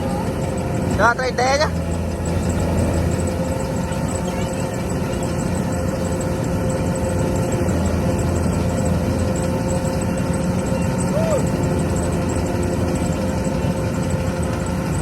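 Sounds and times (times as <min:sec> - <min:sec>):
farm machine engine droning: 0:00.0 - 0:15.0.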